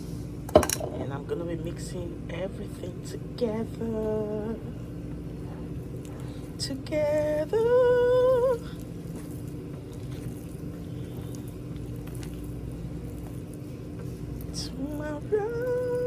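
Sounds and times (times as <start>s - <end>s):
steady low background hum: 0.0s - 16.0s.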